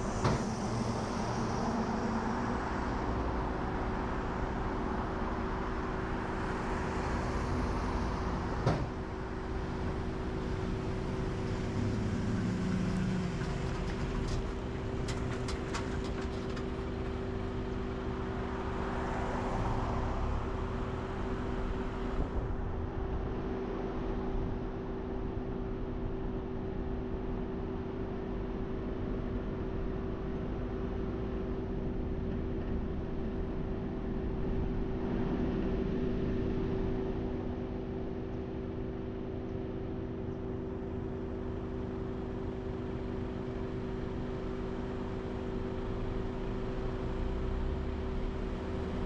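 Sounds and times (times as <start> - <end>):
motor vehicle engine drone: 0.0 - 49.0.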